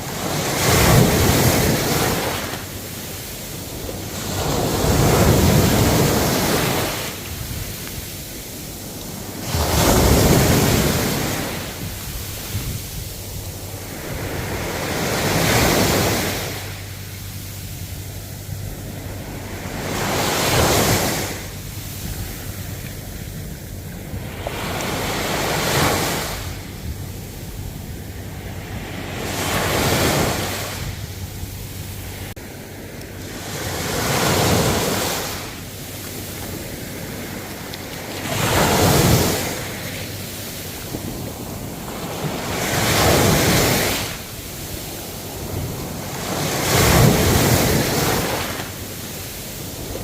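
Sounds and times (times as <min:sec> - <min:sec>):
ocean waves breaking on shore: 0:00.0 - 0:50.0.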